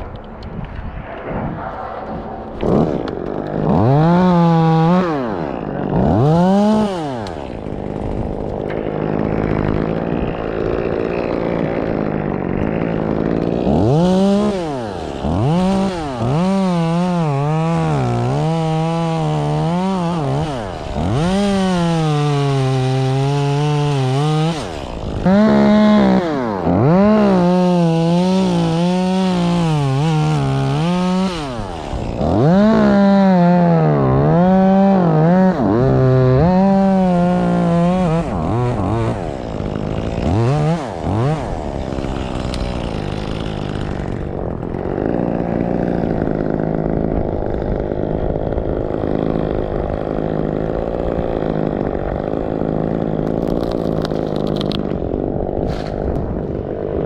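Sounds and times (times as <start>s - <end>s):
chainsaw revving and cutting wood: 2.2s - 57.0s.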